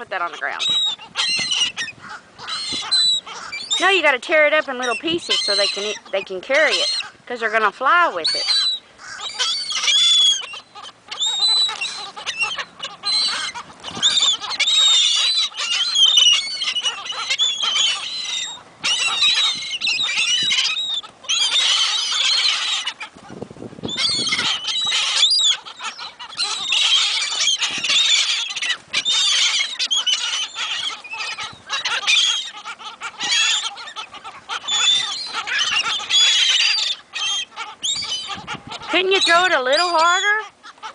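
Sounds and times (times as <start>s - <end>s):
gulls calling: 0.0s - 40.9s.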